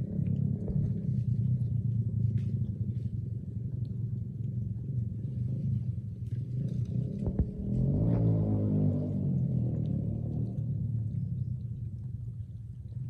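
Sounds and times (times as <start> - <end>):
engine rumbling at idle: 0.0 - 13.0.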